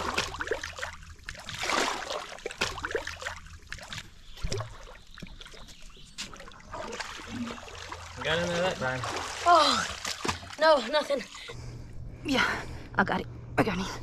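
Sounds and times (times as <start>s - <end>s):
water sloshing and splashing: 0.0s - 11.6s.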